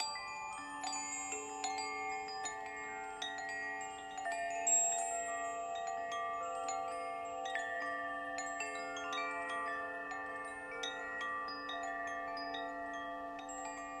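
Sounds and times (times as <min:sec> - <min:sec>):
wind chimes ringing: 0:00.0 - 0:14.0.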